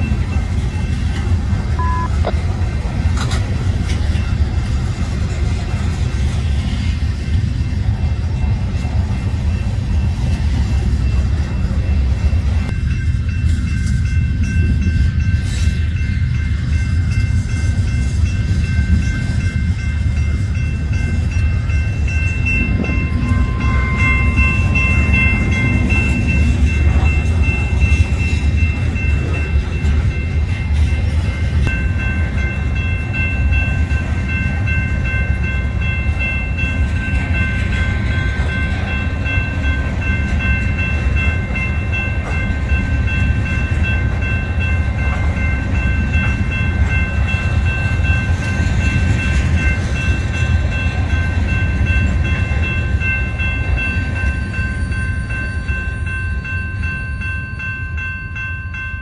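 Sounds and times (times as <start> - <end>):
crossing warning bell ringing: 0.0 - 59.0
train wheels rumbling on rails: 0.0 - 59.0.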